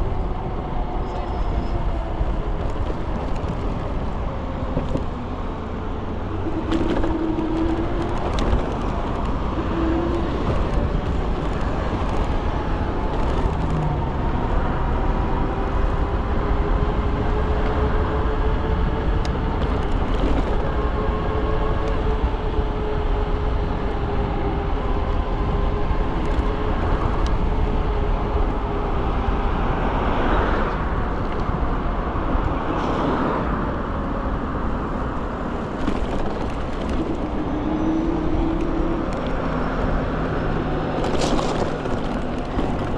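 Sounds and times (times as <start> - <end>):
road noise: 0.0 - 42.9
wind rumble on microphone: 0.0 - 42.9.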